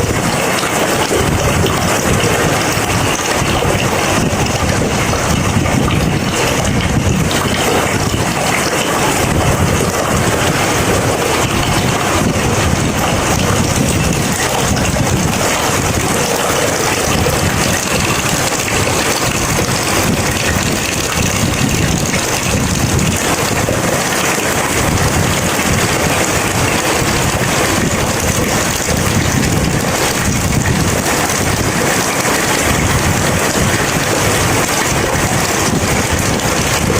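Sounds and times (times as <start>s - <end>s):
steady rain falling: 0.0s - 36.9s
wind buffeting microphone: 0.0s - 36.9s.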